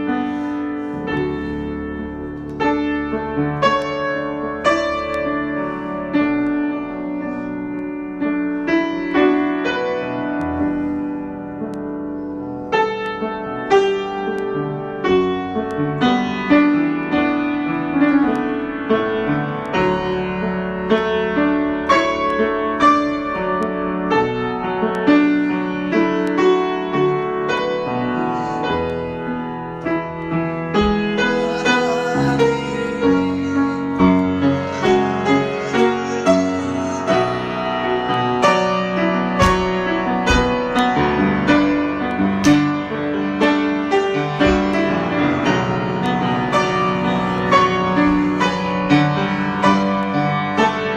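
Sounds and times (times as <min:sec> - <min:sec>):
solo piano improvisation: 0:00.0 - 0:50.9.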